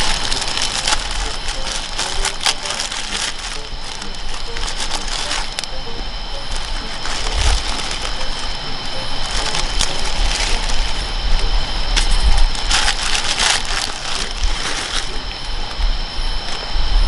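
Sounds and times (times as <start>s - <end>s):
plastic packets rustling: 0.0s - 15.8s
gas stove burning: 0.0s - 17.0s
high-pitched drone: 0.0s - 17.0s.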